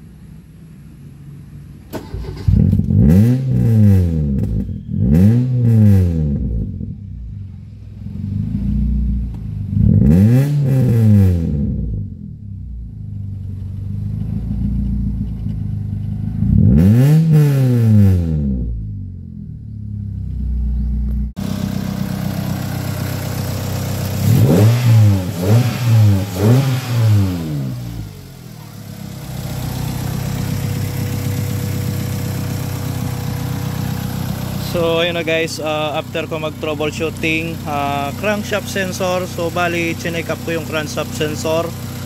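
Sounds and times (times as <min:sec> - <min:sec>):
car engine revving and idling: 0:00.0 - 0:42.0.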